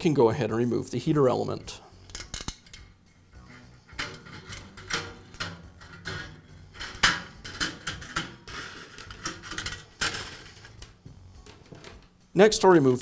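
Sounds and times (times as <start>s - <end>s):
wire clinking against metal frame: 1.4s - 12.1s.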